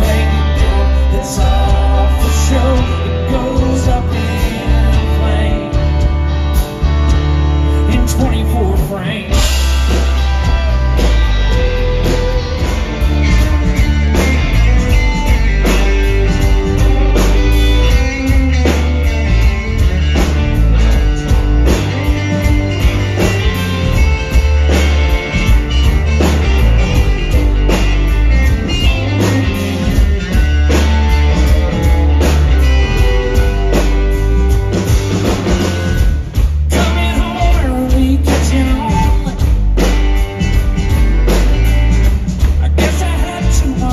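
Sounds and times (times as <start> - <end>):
bass guitar: 0.0 - 43.9
drum kit beat: 0.0 - 43.9
electric guitars: 0.0 - 43.9.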